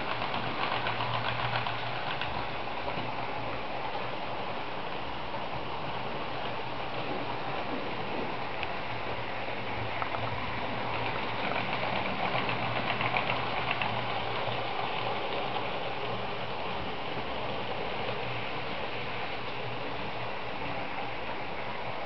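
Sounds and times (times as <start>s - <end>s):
model trains rattling on track: 0.0s - 22.0s.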